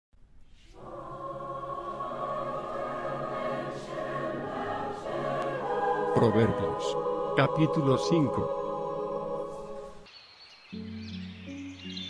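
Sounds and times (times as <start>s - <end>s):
choir singing sustained chords: 0.6s - 12.0s.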